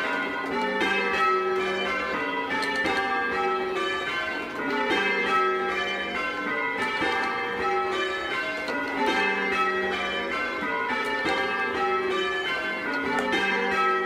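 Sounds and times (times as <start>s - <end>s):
church bells ringing: 0.0s - 14.0s.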